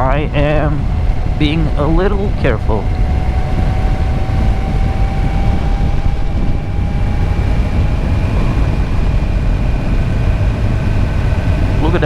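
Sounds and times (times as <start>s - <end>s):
faint steady whine: 0.0s - 12.0s
motorcycle engine rumble: 0.0s - 12.0s
wind rumble: 0.0s - 12.0s.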